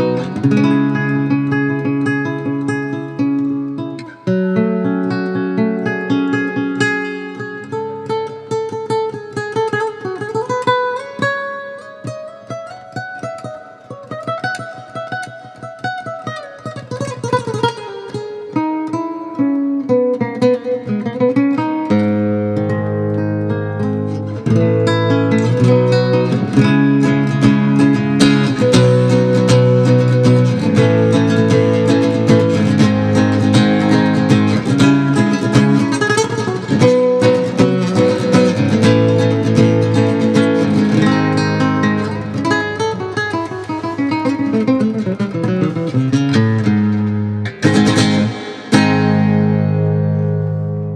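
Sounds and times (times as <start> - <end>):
nylon-string guitar plucked: 0.0 - 50.9.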